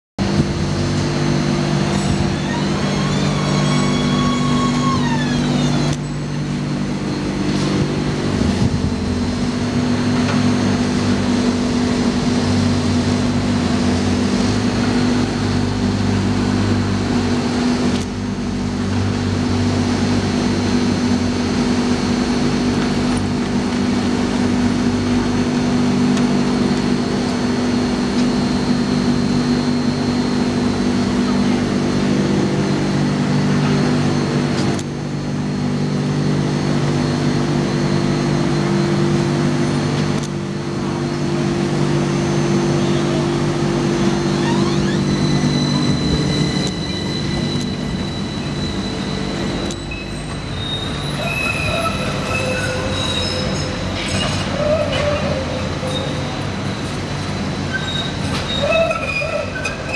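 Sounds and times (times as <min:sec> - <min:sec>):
high whine: 0:00.2 - 0:54.0
tram electrical hum: 0:00.2 - 0:59.9.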